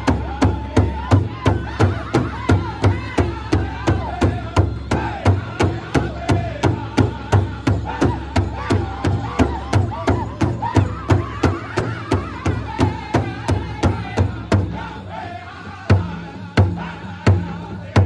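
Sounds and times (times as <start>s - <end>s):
drum group singing in high voices: 0.0s - 18.0s.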